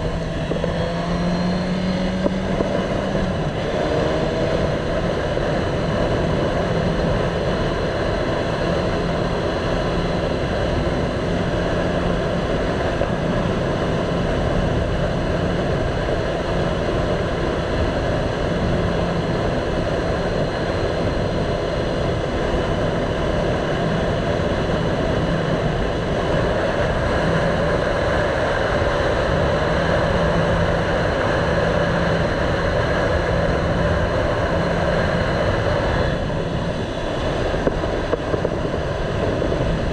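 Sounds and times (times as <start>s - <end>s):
motorcycle engine cruising: 0.0s - 39.9s
wind rushing noise: 0.0s - 39.9s.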